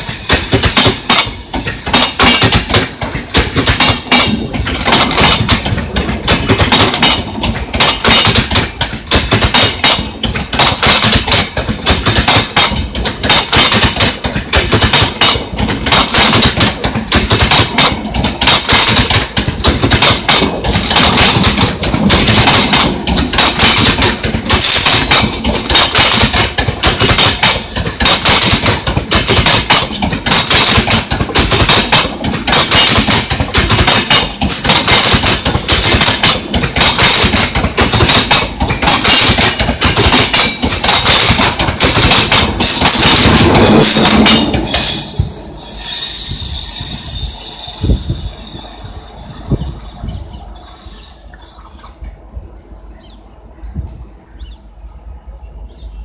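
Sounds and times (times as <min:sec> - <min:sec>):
wheels clattering over rail joints: 0:00.0 - 0:50.4
train passing close by: 0:00.0 - 0:56.0.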